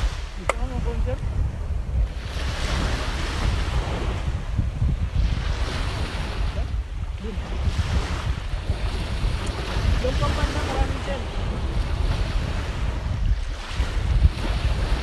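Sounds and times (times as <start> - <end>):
sea surf washing on rocks: 0.0 - 15.0
wind buffeting microphone: 0.0 - 15.0.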